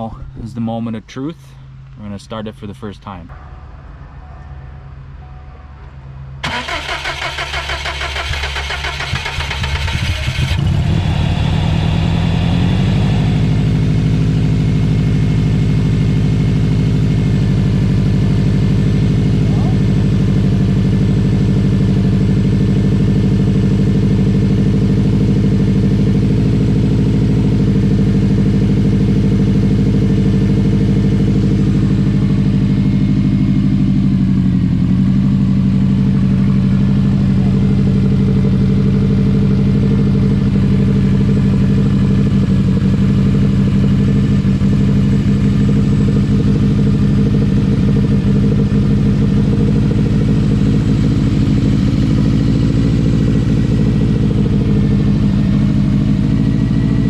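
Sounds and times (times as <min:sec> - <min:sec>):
car engine idling: 0:06.4 - 0:57.0.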